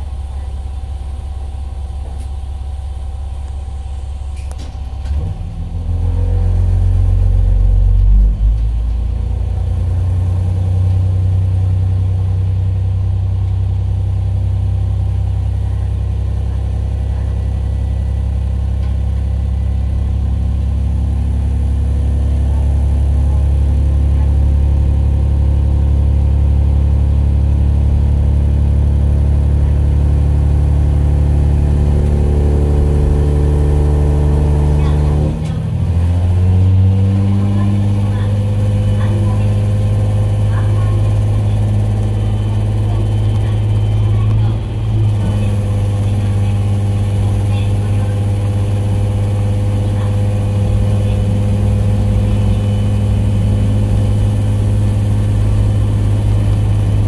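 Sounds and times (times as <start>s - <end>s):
diesel railcar engine revving: 0.0s - 57.0s.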